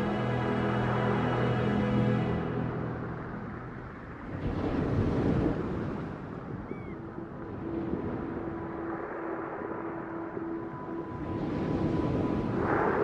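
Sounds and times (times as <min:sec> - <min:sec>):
low rumbling wash of noise: 0:00.0 - 0:13.0.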